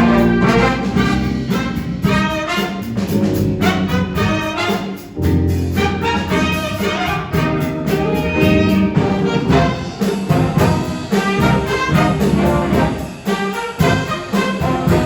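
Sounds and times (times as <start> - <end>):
cymbal beat: 0.0 - 15.0
jazz band playing: 0.0 - 15.0.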